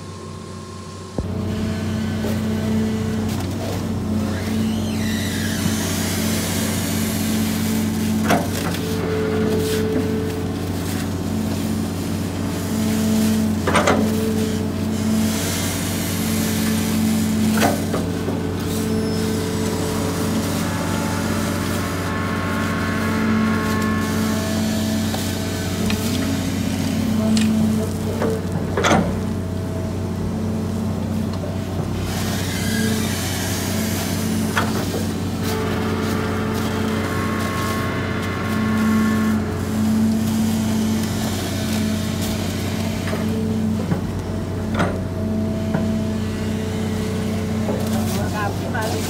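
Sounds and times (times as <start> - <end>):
excavator diesel engine running: 0.0 - 49.0
hydraulic hum: 0.0 - 49.0.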